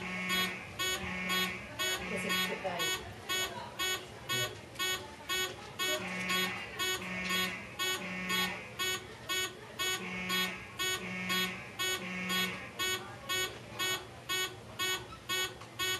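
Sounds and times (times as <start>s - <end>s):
lower alarm horn blasts: 0.0s - 13.0s
high pulsing alarm horn: 0.0s - 15.9s.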